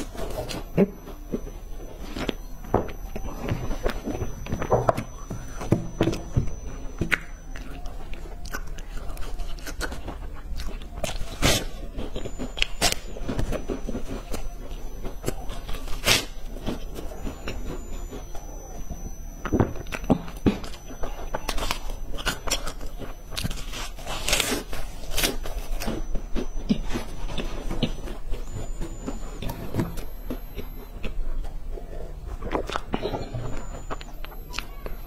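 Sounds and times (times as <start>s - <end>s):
crunching and chewing crisp sticks: 0.0s - 35.0s.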